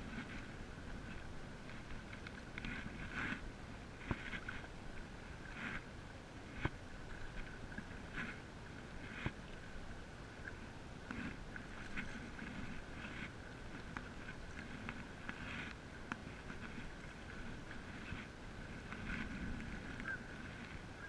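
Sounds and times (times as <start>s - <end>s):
low wind rumble: 0.0s - 21.0s
paddle splashing through water: 0.0s - 21.0s.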